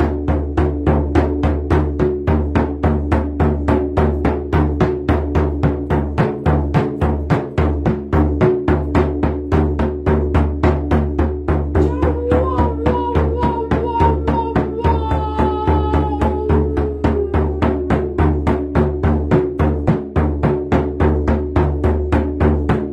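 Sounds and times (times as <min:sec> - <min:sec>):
hand drum beating: 0:00.0 - 0:22.9.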